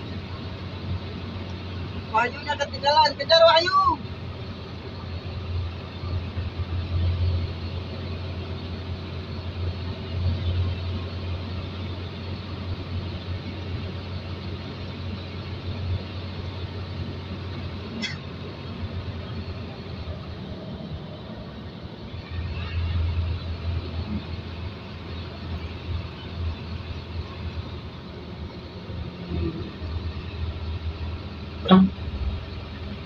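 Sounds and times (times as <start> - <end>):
truck engine and road noise: 0.0 - 33.0.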